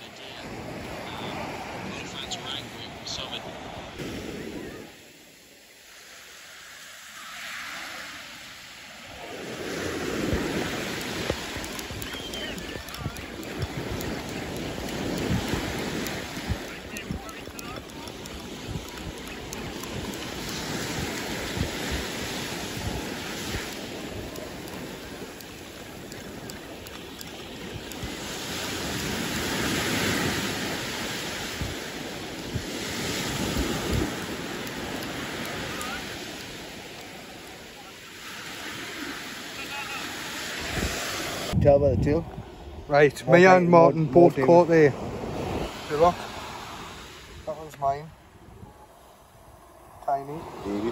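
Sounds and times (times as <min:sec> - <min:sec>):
small waves breaking on beach: 0:00.0 - 0:50.9.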